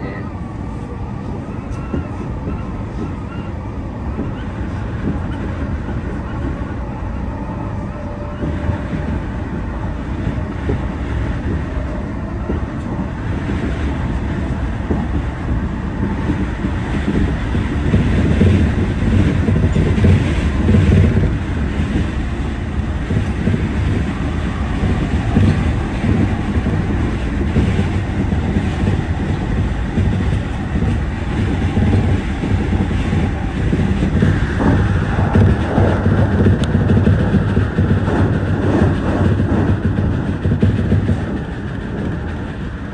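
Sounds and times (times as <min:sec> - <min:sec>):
rail clatter: 0:00.0 - 0:42.9
train wheels rumbling on rails: 0:00.0 - 0:42.9.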